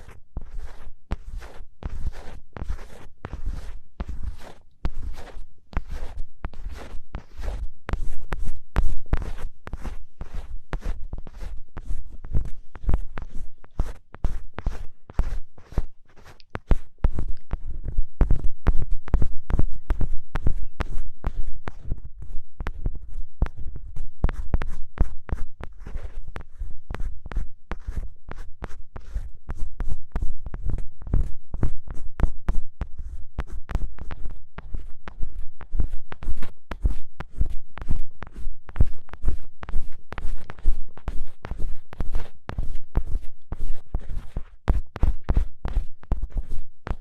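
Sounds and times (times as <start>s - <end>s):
ear pick scratching microphone: 0.0s - 47.0s.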